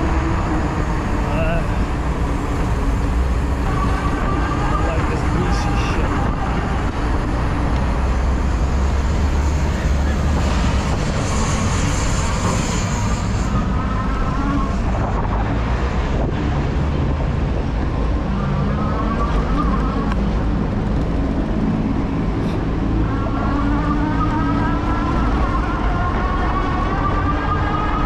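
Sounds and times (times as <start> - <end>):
street traffic noise: 0.0 - 28.0
wind rumbling on microphone: 0.0 - 28.0.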